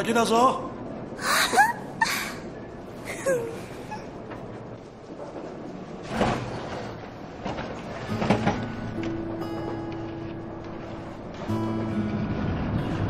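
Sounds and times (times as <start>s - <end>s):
gondola lift machinery running: 0.0s - 13.0s.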